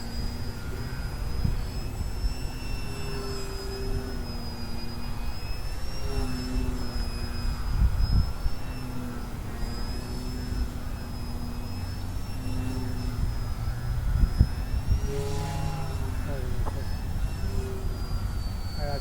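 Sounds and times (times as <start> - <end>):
electric motor and propeller whining: 0.0 - 19.0
wind rumble on microphone: 0.0 - 19.0.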